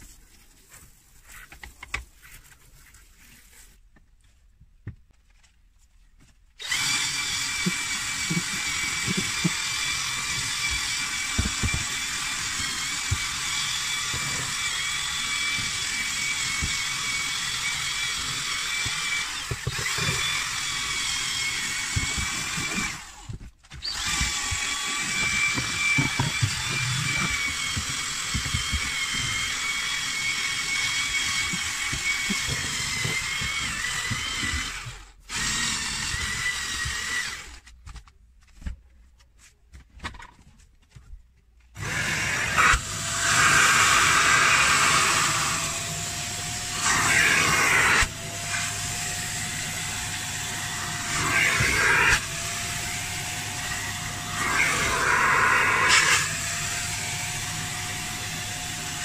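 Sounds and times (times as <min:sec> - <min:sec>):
drill motor whine: 0:06.6 - 0:37.6, 0:41.8 - 0:59.0.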